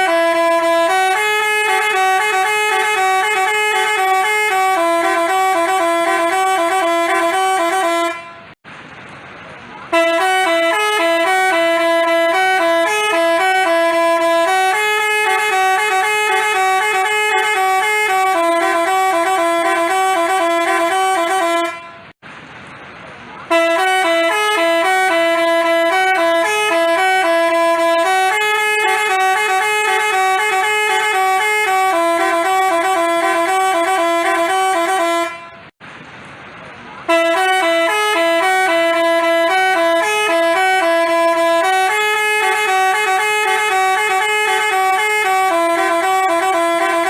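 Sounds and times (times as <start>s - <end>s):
musical horn playing a tune: 0.0s - 8.6s, 9.9s - 22.2s, 23.5s - 35.7s, 37.1s - 47.0s.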